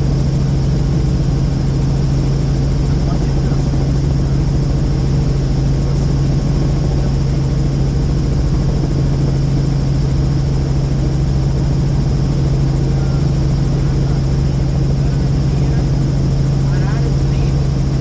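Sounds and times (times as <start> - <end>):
helicopter cabin drone: 0.0 - 18.0.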